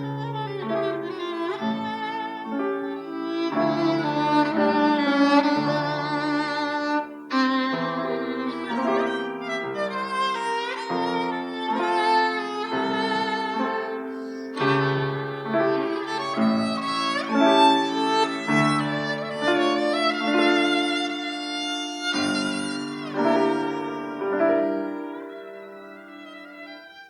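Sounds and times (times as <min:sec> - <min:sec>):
piano accompaniment: 0:00.0 - 0:27.0
solo violin melody: 0:00.0 - 0:27.0.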